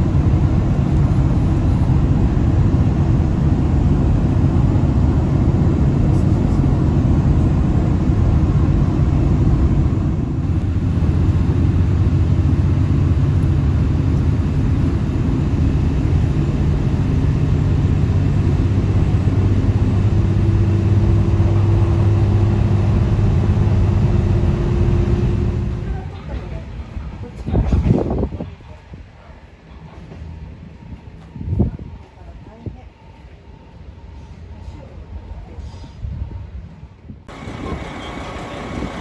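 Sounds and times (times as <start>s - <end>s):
train wheels and engine rumbling: 0.0s - 39.0s.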